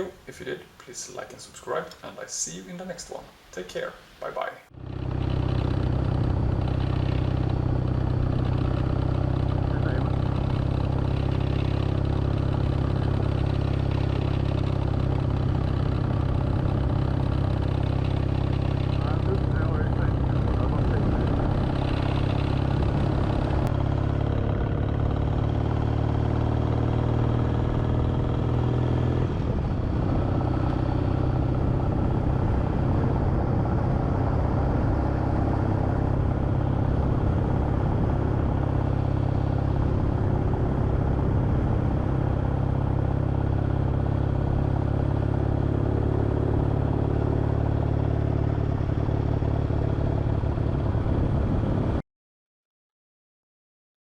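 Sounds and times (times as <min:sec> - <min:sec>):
motorcycle engine running: 0:04.7 - 0:52.0.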